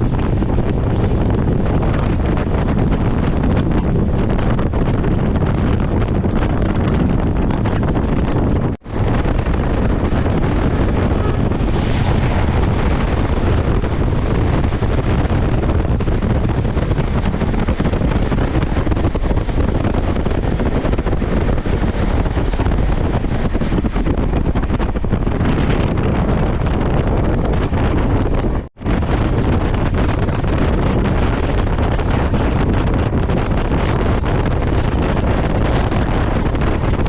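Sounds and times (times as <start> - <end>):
train rumble: 0.0 - 37.0
wind buffeting microphone: 0.0 - 37.0.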